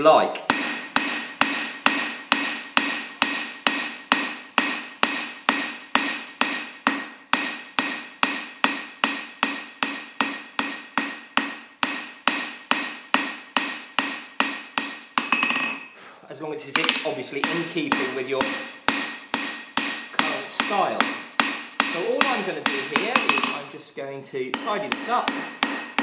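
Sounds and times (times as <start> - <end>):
hammer striking hot steel on anvil: 0.5 - 15.9, 16.8 - 23.7, 24.5 - 26.0.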